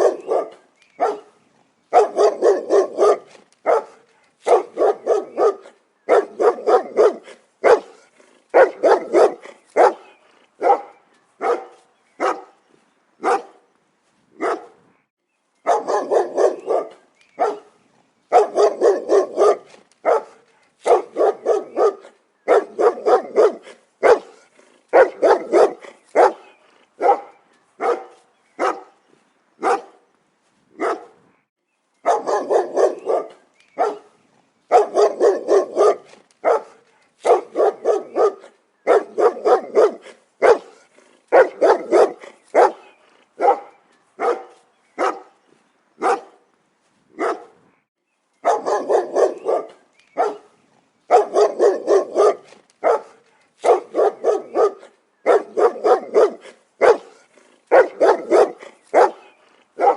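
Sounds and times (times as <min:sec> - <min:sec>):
dog barking: 0:00.0 - 0:01.3, 0:01.9 - 0:12.6, 0:13.2 - 0:13.6, 0:14.4 - 0:14.8, 0:15.6 - 0:29.0, 0:29.6 - 0:30.0, 0:30.8 - 0:31.2, 0:32.0 - 0:34.1, 0:34.7 - 0:45.4, 0:46.0 - 0:46.4, 0:47.2 - 0:47.6, 0:48.4 - 0:59.9.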